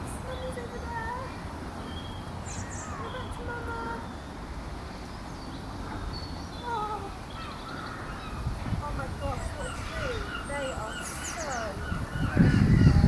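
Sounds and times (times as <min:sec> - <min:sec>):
distant bird calls: 0:00.3 - 0:13.0.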